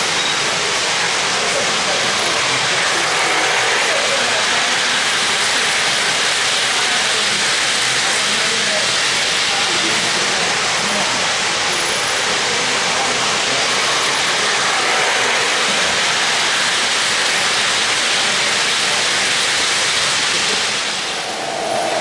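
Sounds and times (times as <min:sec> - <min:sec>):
model train wheels rolling on rails: 0:00.0 - 0:22.0.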